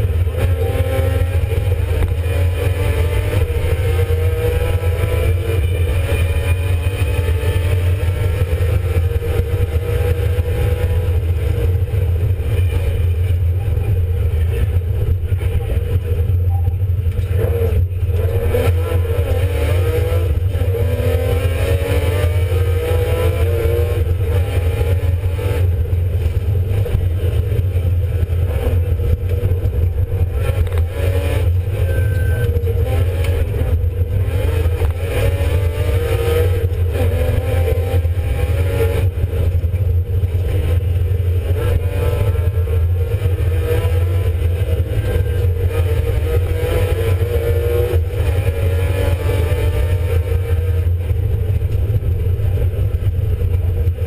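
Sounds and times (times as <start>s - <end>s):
loud low drone: 0.0s - 54.0s
rally car engine revving: 0.0s - 54.0s.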